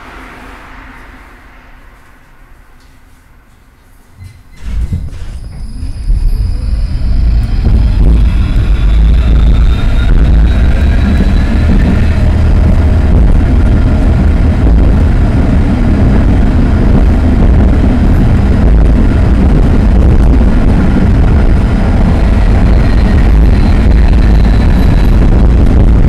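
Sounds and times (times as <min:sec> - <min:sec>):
faint drive whine: 0:00.0 - 0:26.0
tram rumbling on track: 0:00.0 - 0:26.0.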